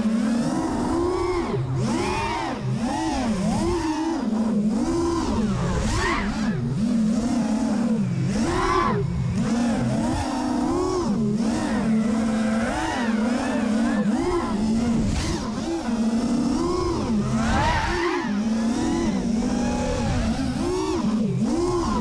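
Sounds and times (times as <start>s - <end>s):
quadcopter motors buzzing whine: 0.0s - 22.0s.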